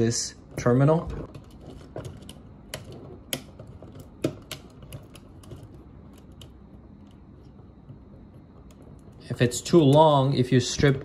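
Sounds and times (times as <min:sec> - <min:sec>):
wires clicking and scraping: 0:00.0 - 0:11.0
wires knocking against plastic box: 0:00.6 - 0:10.2.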